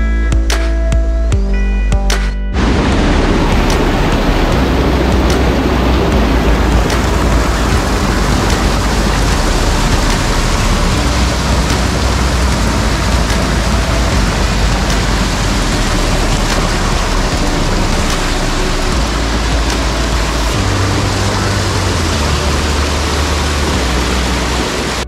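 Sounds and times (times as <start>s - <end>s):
small waterfall splashing into pool: 2.6s - 25.0s.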